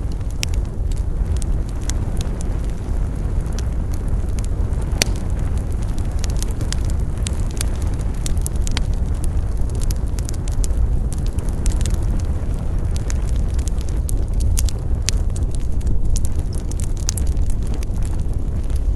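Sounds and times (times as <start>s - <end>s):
campfire crackling and popping: 0.0s - 18.9s.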